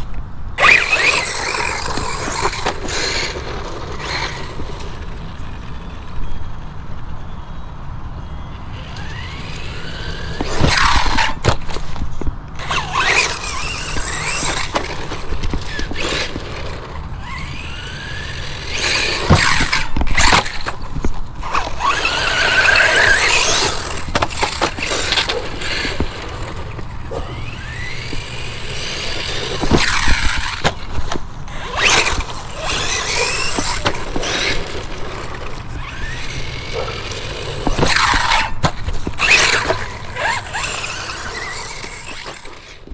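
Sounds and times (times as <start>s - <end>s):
electric motor whining: 0.6s - 6.6s, 8.7s - 11.5s, 12.6s - 20.8s, 21.4s - 42.9s.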